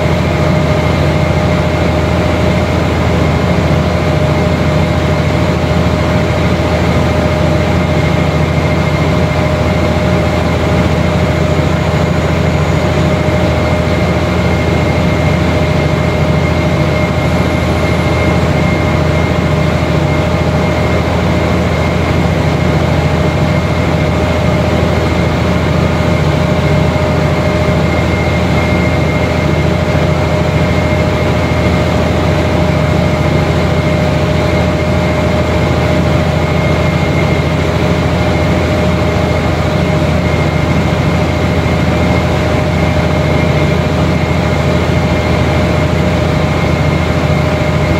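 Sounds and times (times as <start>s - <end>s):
air compressor whine: 0.0s - 47.9s
locomotive engine drone: 0.0s - 47.9s.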